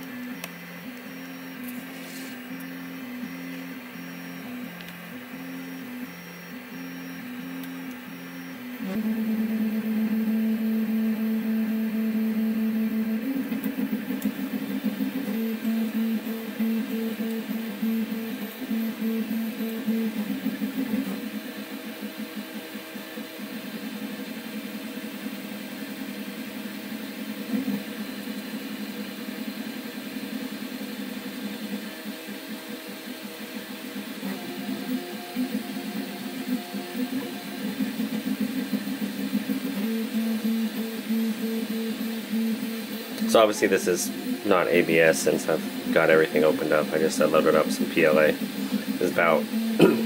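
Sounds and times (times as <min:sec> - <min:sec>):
printer stepper motors humming: 0:00.0 - 0:50.0.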